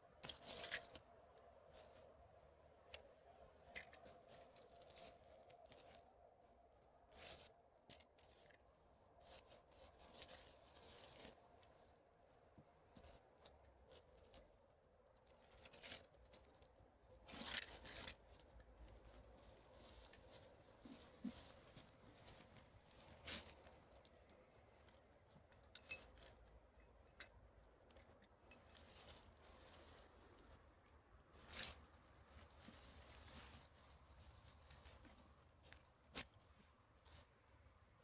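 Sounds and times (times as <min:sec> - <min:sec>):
rustling of forest-floor litter: 0:00.1 - 0:02.3, 0:03.0 - 0:27.1, 0:28.4 - 0:38.0.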